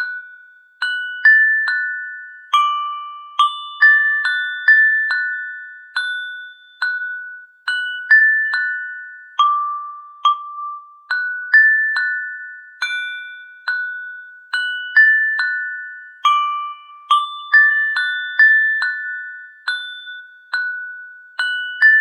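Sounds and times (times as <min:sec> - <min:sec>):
glockenspiel melody: 0:00.0 - 0:22.0.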